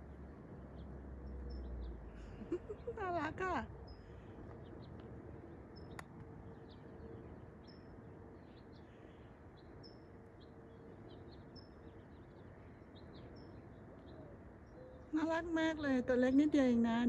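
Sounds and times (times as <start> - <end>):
bird chirping: 0.0 - 17.0
faint steady hum: 0.0 - 17.0.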